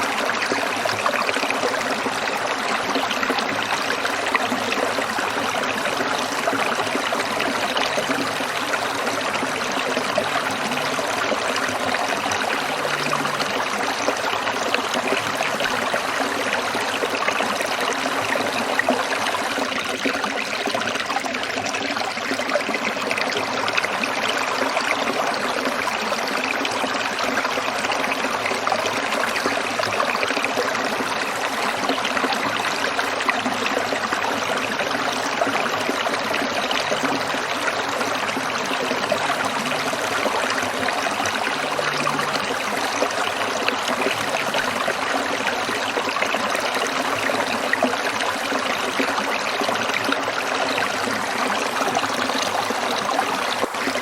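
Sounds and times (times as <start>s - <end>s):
stream water babbling over rocks: 0.0s - 54.0s.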